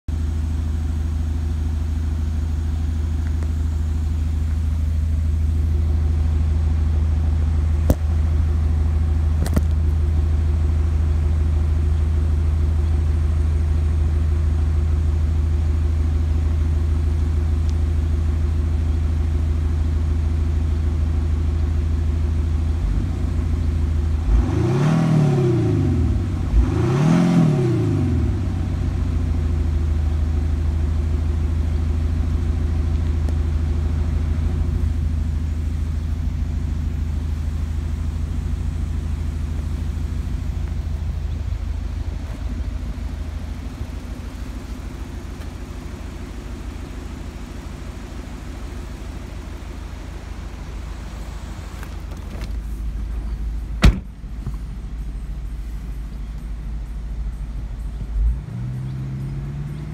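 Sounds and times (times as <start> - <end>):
diesel engine idling and revving: 0.1 - 59.9.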